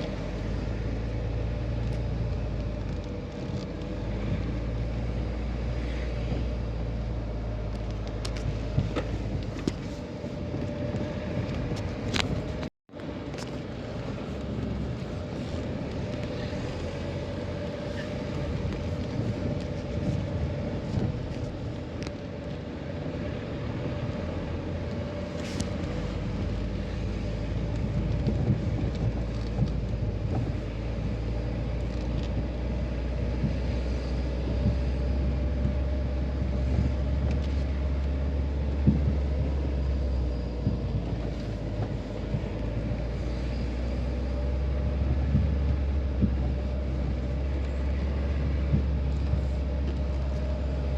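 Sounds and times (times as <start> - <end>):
car engine hum: 0.0 - 50.9
heavy deep rumble: 0.0 - 50.9.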